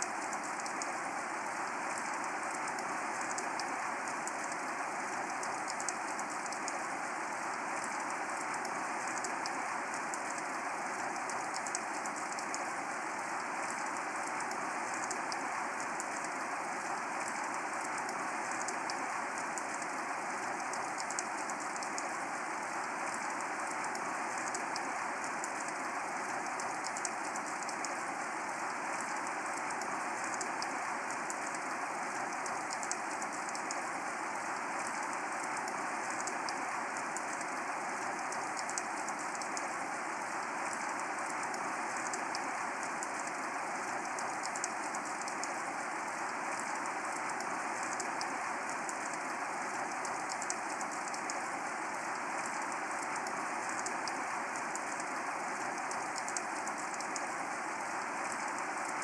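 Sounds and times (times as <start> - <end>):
raindrops ticking: 0.0 - 59.0
steady rain hissing: 0.0 - 59.0.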